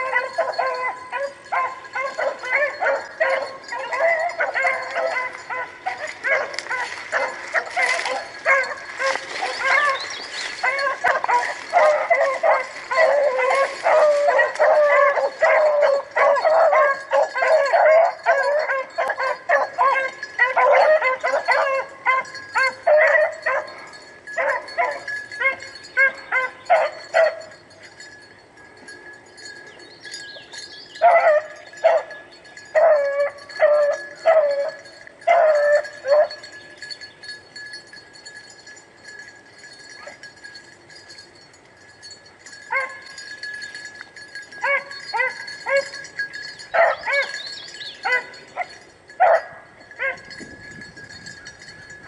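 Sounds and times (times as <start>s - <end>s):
hounds barking and baying: 0.0s - 52.0s.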